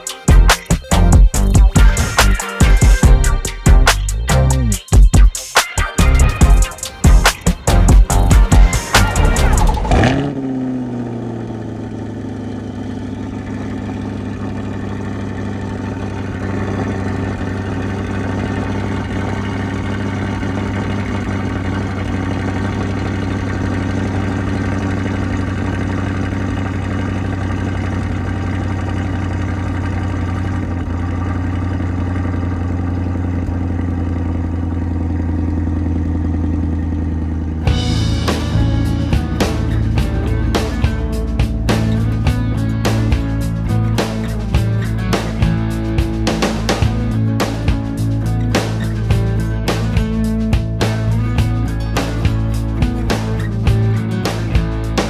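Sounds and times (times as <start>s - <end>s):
vehicle engine idling: 0.0s - 5.2s, 6.0s - 55.0s.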